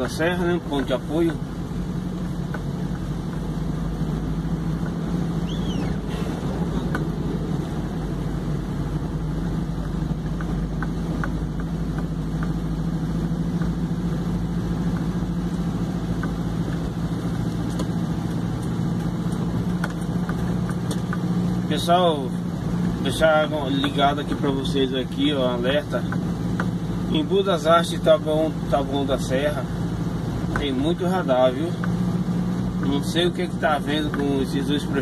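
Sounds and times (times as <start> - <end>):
road noise: 0.0 - 35.0
vehicle engine running: 0.0 - 35.0.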